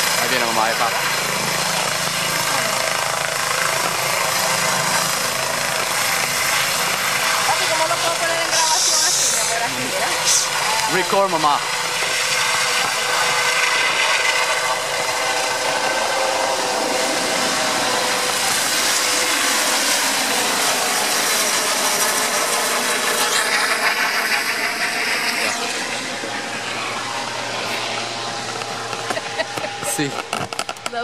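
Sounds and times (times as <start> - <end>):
helicopter rotor and turbine noise: 0.0 - 31.0.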